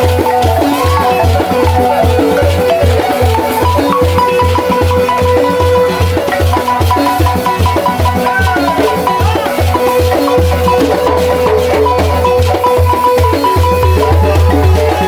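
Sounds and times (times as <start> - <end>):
balafons playing fast pattern: 0.0 - 15.0.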